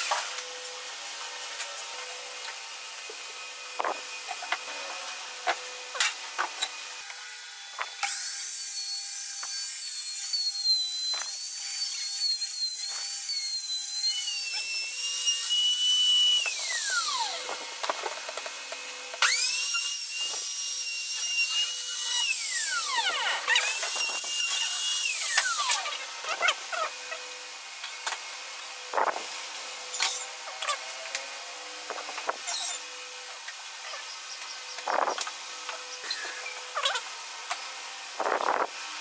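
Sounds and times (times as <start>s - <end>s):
router motor whining: 0.0s - 39.0s.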